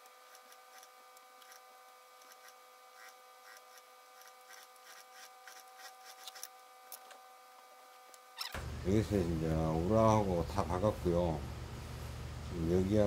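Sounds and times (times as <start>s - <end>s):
thin electrical hum: 0.0s - 13.0s.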